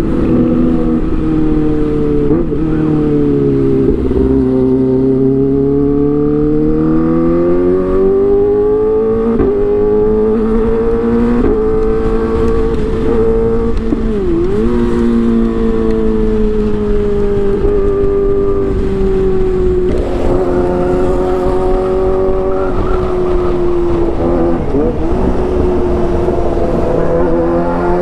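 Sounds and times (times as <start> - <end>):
motorcycle engine revving high: 0.0 - 28.0.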